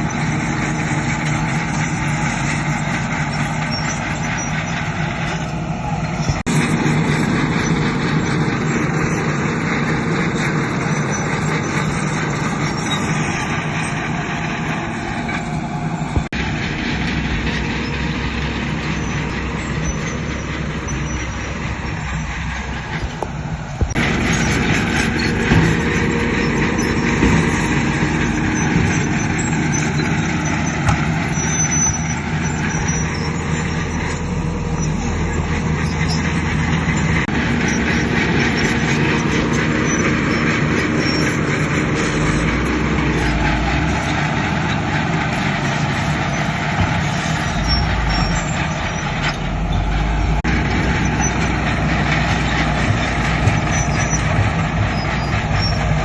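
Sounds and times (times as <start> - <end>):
heavy diesel machinery engines: 0.0 - 56.0.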